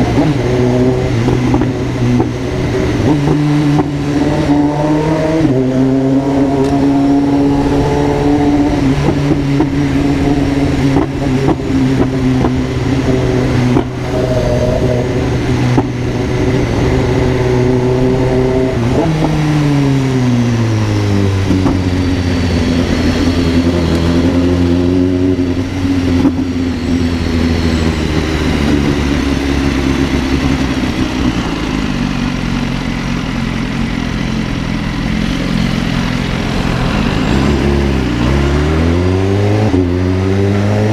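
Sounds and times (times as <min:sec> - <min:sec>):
car exhaust droning: 0:00.0 - 0:40.9.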